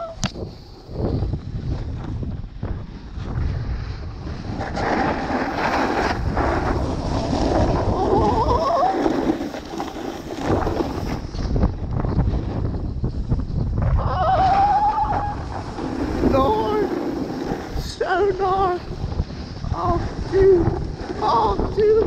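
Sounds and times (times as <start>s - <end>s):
wind on microphone: 0.0s - 22.0s
snowboard scraping snow: 0.4s - 12.8s, 14.3s - 22.0s.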